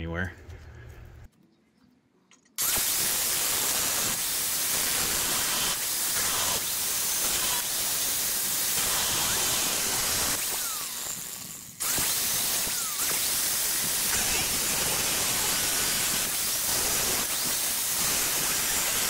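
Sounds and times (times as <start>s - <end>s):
angle grinder cutting steel: 2.6s - 19.0s.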